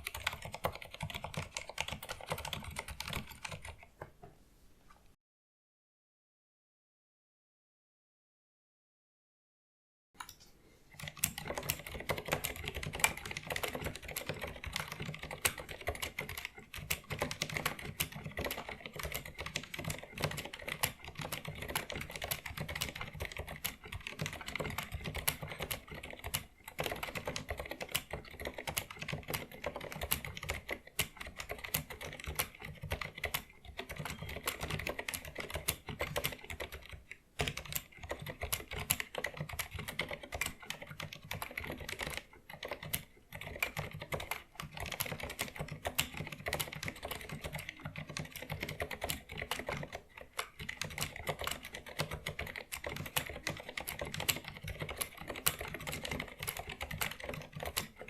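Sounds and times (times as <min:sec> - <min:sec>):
fast mechanical keyboard typing: 0:00.0 - 0:03.9, 0:10.9 - 0:58.0.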